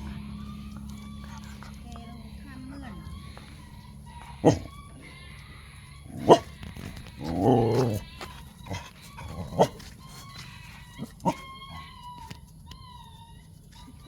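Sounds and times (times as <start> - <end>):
dog wavering vocal sound: 0.0 - 14.0
dogs barking and yipping: 0.0 - 14.0.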